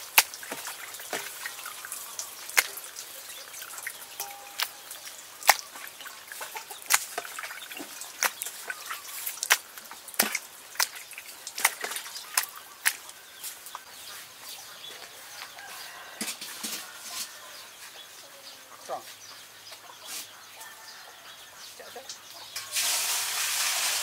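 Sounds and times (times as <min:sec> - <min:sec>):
faint outdoor background: 0:00.0 - 0:24.0.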